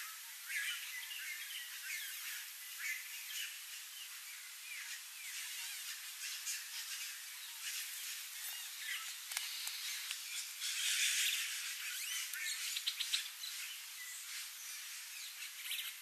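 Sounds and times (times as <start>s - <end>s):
outdoor hiss: 0.0s - 16.0s
birds chirping: 0.6s - 16.0s.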